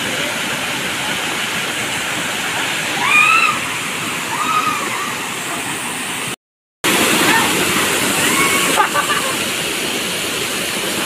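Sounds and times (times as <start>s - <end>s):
waterfall pouring into pool: 0.0s - 11.0s.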